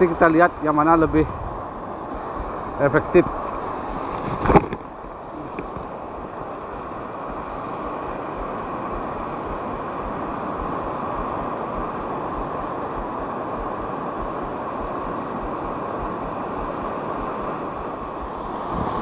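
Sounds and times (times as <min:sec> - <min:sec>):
surf rushing: 0:00.0 - 0:19.0
wind buffeting microphone: 0:00.0 - 0:19.0.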